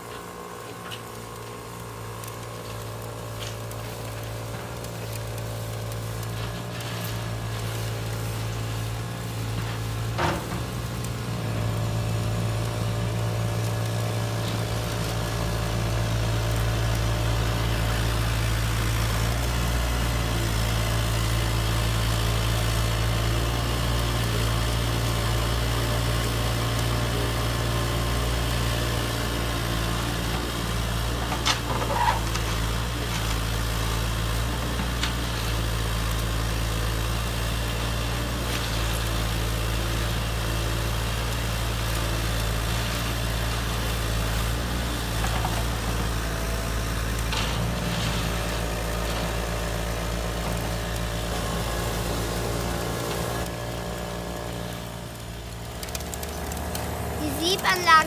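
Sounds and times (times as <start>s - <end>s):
motors and conveyor belts humming: 0.0s - 58.0s.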